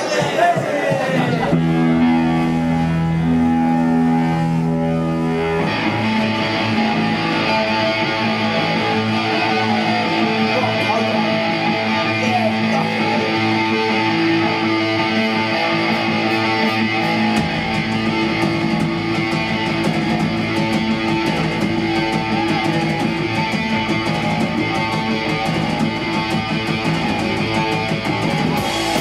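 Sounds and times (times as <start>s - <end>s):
punk rock band playing: 0.0s - 29.0s
held electric guitar notes: 1.0s - 29.0s.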